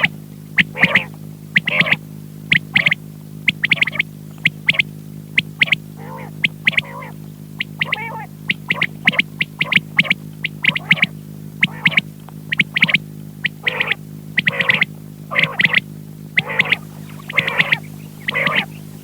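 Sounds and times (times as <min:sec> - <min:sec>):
quail lower wavering calls: 0:00.0 - 0:19.0
quail sharp high calls: 0:00.0 - 0:19.0
steady low hum: 0:00.0 - 0:19.0.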